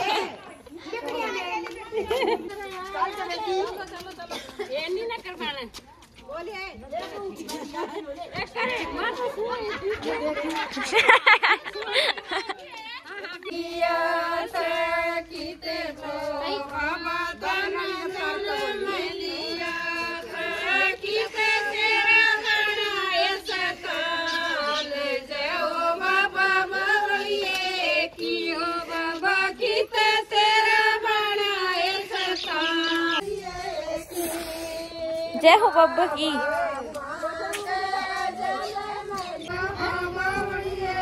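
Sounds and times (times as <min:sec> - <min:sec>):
women singing folk song: 0:00.0 - 0:00.7, 0:07.6 - 0:41.0.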